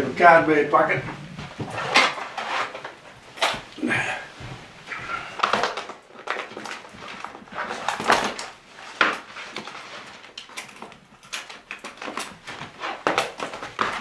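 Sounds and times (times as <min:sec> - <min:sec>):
paper rustling: 0:01.3 - 0:03.7, 0:04.8 - 0:14.0.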